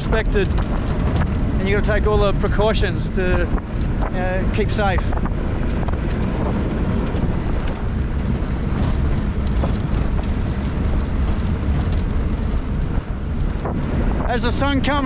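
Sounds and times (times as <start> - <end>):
vehicle engine and tyres rumbling: 0.0 - 15.0
wind buffeting microphone: 0.0 - 15.0.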